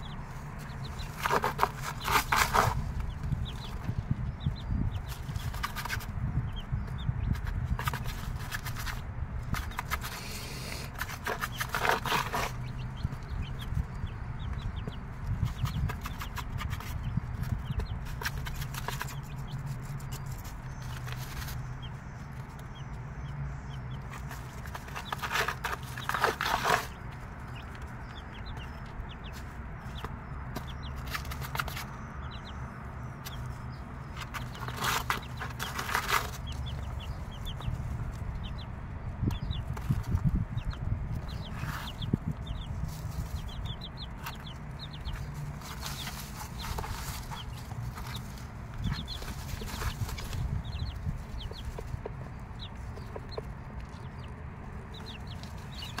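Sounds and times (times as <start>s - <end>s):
chicks peeping: 0.0s - 56.0s.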